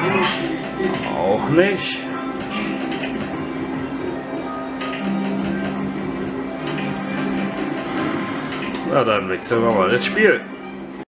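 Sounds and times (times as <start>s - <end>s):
slot machine game music: 0.0s - 11.0s.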